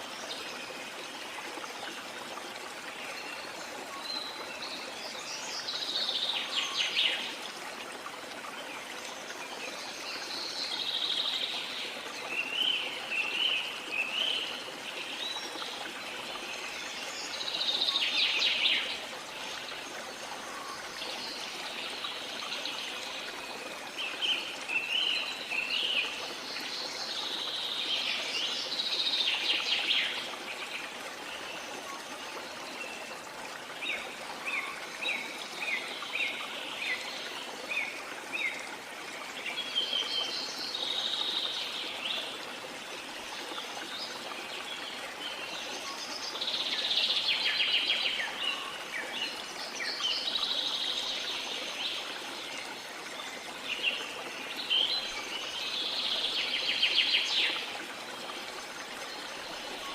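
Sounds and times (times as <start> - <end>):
flowing water: 0.0 - 59.9.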